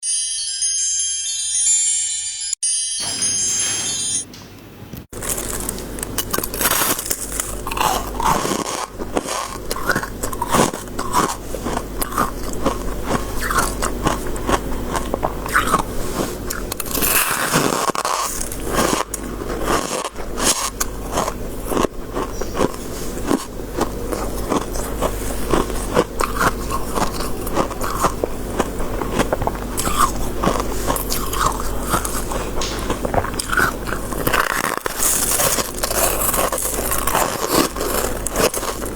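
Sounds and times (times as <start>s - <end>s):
chewing crunchy frost: 5.1s - 38.9s.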